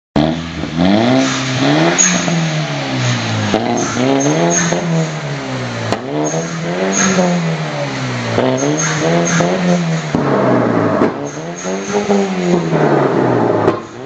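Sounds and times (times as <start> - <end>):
car engine revving: 0.2 - 14.0
sharp exhaust cracks: 0.2 - 14.0.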